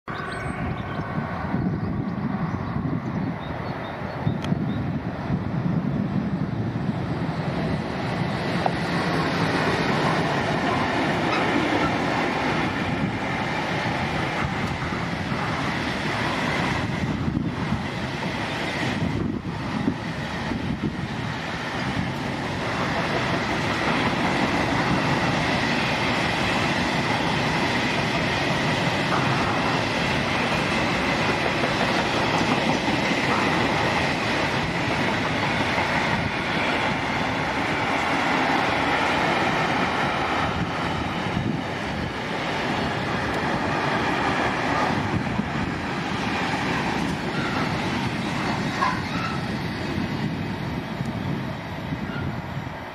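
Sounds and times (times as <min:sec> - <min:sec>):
freight train rumbling past: 0:00.0 - 0:52.9.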